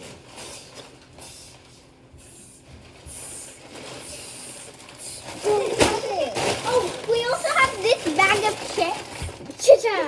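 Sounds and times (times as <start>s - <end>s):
rustling and handling noises: 0.0s - 10.0s.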